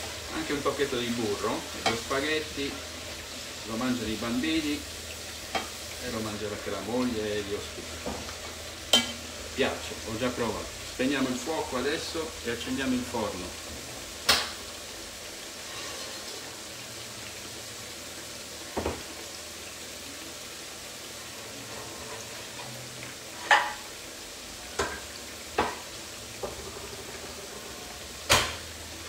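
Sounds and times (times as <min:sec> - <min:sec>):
slices sizzling in oil: 0:00.0 - 0:29.0.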